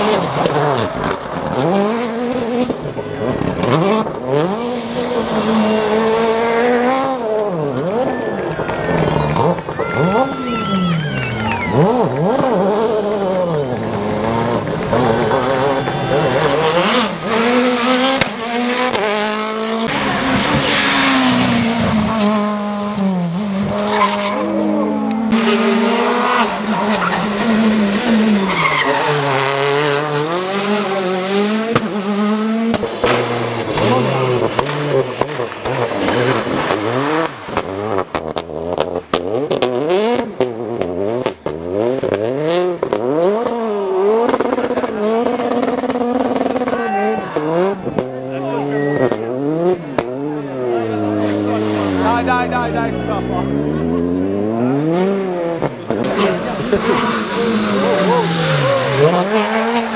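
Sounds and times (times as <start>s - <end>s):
rally cars passing: 0.0s - 59.9s
tyres skidding and squealing: 0.0s - 59.9s.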